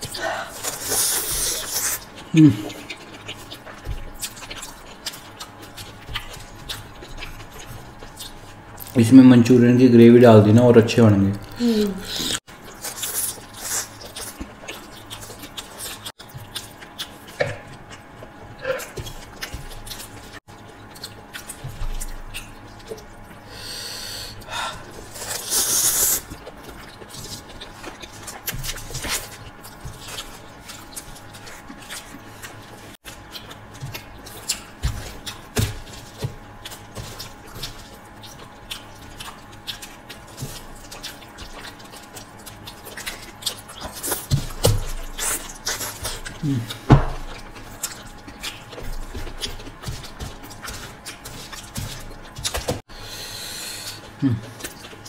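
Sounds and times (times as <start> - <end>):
wet slurping and chewing: 0.0 - 9.0, 11.3 - 55.0.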